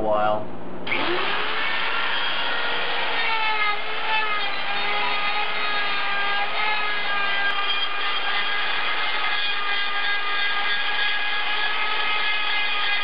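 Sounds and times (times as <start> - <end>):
die grinder grinding metal: 0.9 - 13.0.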